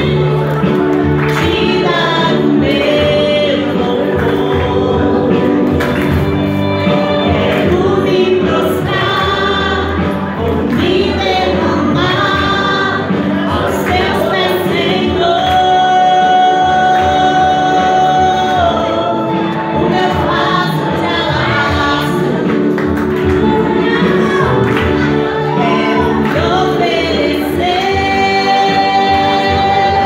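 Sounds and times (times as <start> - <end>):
musical accompaniment: 0.0 - 30.0
woman singing into microphone: 0.0 - 30.0.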